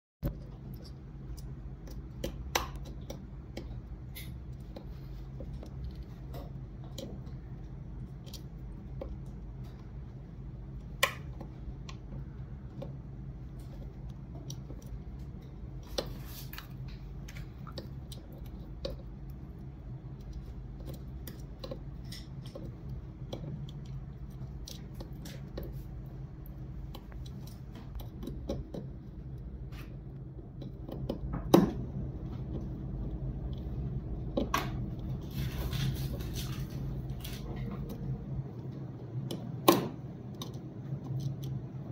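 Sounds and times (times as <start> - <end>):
low hum: 0.2 - 41.9.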